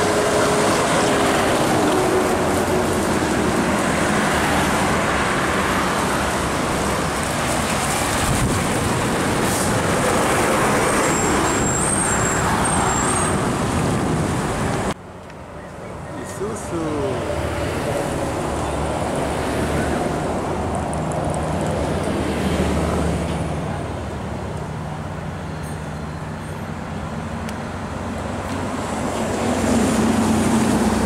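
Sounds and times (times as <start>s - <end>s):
diesel truck engine drone: 0.0s - 31.0s
tyre and road noise: 0.0s - 31.0s.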